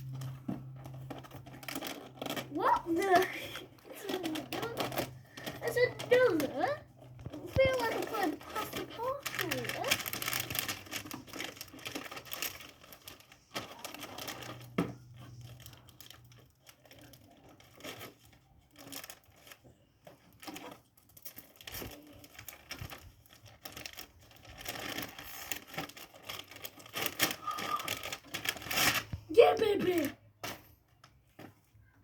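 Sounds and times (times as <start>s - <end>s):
packaging crinkled and torn: 0.0s - 31.2s.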